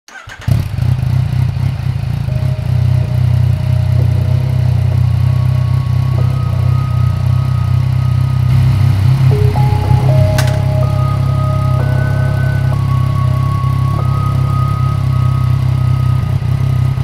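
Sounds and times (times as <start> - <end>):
motorcycle engine idling: 0.5 - 9.7, 11.2 - 17.0.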